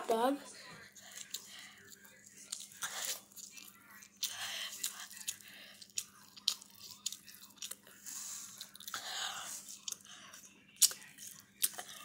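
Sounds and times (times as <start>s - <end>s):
person chewing fried food: 0.7s - 12.0s.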